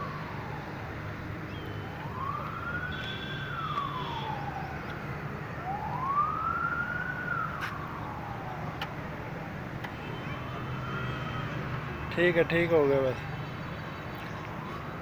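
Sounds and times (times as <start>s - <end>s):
emergency siren wailing: 0.0s - 12.4s.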